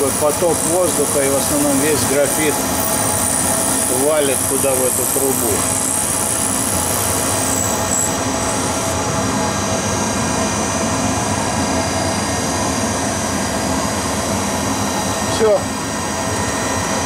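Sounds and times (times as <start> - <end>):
high whine: 0.0 - 17.0
shop vacuum running: 0.0 - 17.0.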